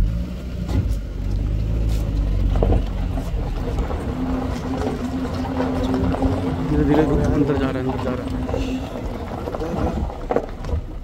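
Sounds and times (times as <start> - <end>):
jeep engine running: 0.0 - 11.0.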